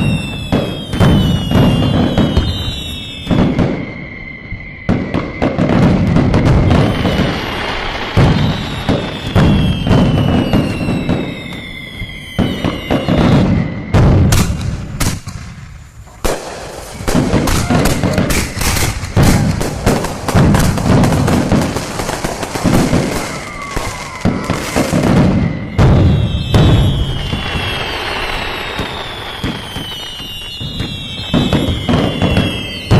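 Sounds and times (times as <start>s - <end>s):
fireworks bangs and crackling: 0.0s - 32.9s
fireworks whistles falling: 0.0s - 32.9s.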